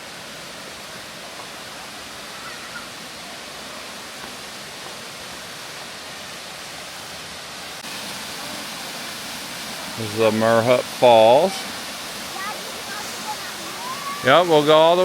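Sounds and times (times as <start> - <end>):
waterfall pouring into pool: 0.0 - 15.0.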